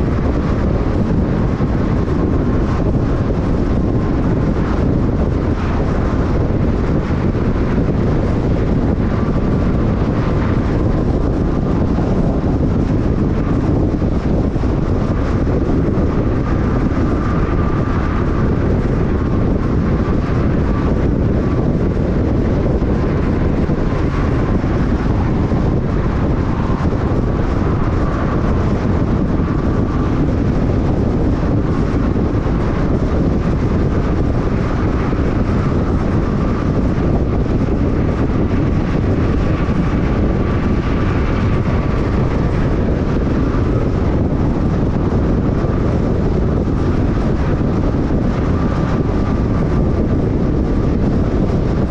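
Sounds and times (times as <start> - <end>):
tyres running on concrete road: 0.0 - 51.9.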